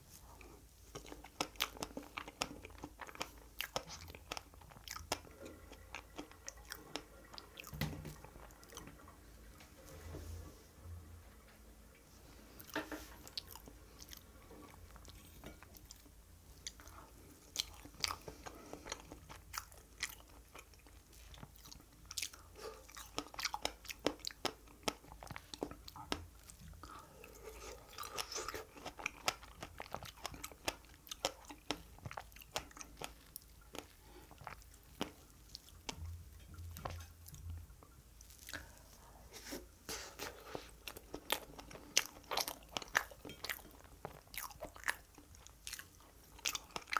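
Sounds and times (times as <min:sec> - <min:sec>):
person chewing cake: 0:00.0 - 0:08.9, 0:12.6 - 0:46.9.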